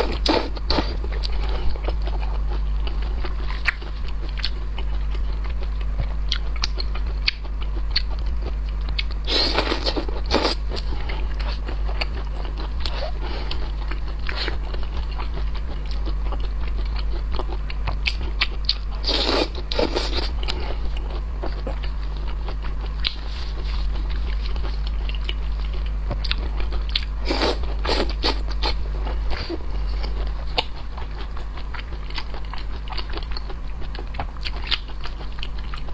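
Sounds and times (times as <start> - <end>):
chewing and crunching: 0.0 - 35.9
steady low hum: 0.0 - 35.9.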